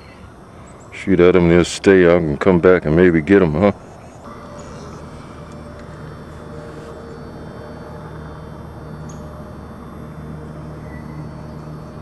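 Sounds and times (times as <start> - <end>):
distant low rumble: 0.0 - 12.0
faint hum: 0.0 - 12.0.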